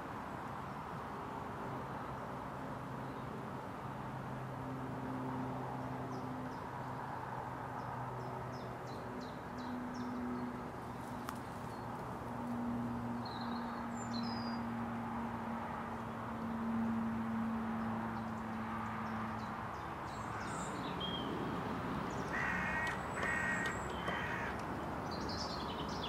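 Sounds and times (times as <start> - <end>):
outdoor background noise: 0.0 - 26.0
songbirds chirping: 2.8 - 26.0.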